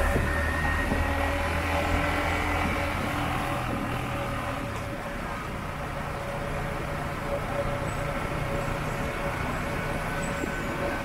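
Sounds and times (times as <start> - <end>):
motorbike engine hum: 0.0 - 11.0
road and wind noise: 0.0 - 11.0.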